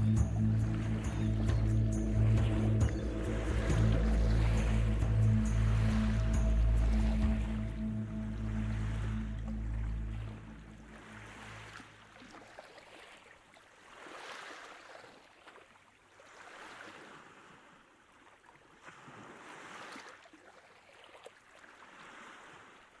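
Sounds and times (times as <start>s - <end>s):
small waves washing on shore: 0.0s - 23.0s.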